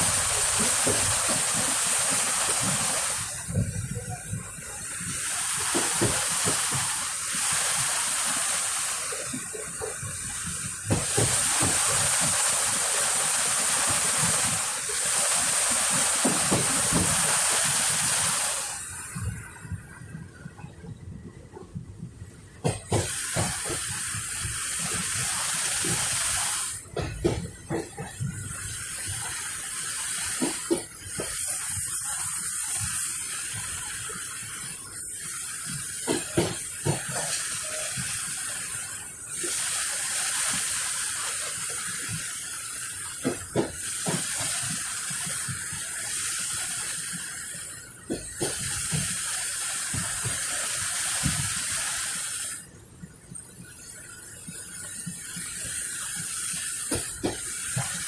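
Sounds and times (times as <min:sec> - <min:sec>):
rushing hiss of train: 0:00.0 - 0:58.0.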